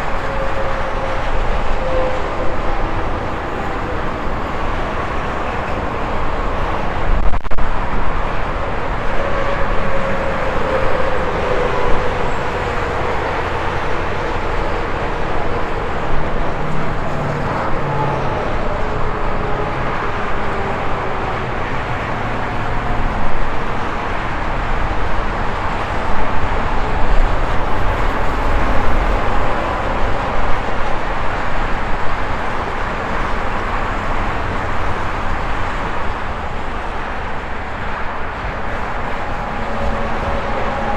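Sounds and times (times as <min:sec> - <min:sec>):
highway traffic rumble: 0:00.0 - 0:40.9
passing vehicle whine: 0:00.0 - 0:40.9.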